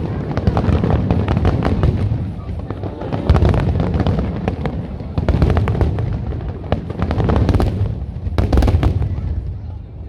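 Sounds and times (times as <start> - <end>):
fireworks cracking and popping: 0.0 - 9.7.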